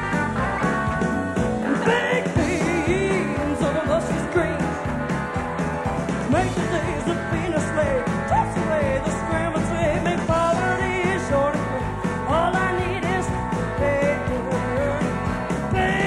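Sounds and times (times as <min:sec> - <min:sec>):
country-rock band playing: 0:00.0 - 0:16.0.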